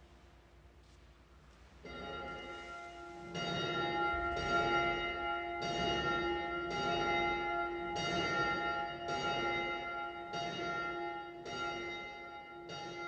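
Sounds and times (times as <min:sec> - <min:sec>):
church bell tolling: 0:01.8 - 0:13.0.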